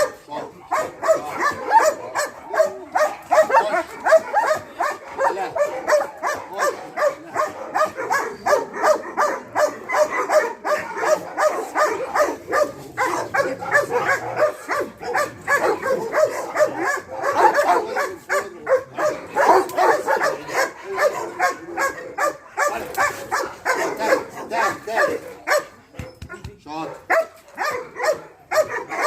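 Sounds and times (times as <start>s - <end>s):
dogs barking rapidly: 0.0s - 29.0s.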